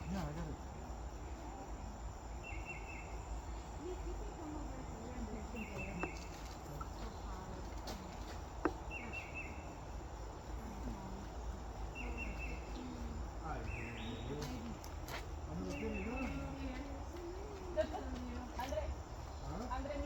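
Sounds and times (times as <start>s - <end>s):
insect pulsed chirp: 0.0s - 20.0s.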